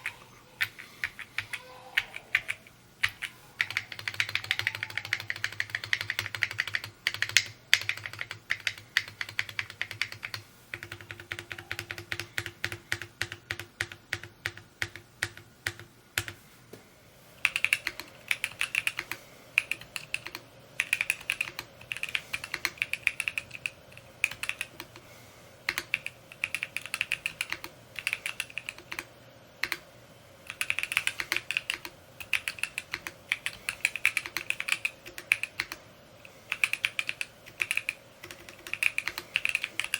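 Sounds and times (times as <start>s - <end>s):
mechanical keyboard typing: 0.0s - 16.4s, 17.4s - 25.0s, 25.6s - 29.8s, 30.5s - 39.9s.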